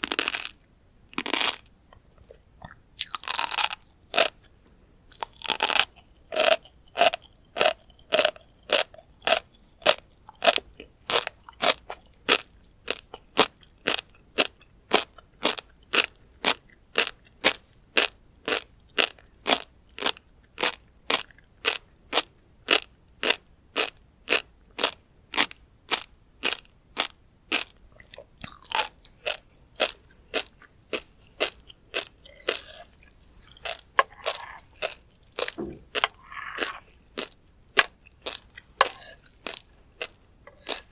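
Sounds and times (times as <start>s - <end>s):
chewing crunchy fish roe: 0.0s - 40.9s.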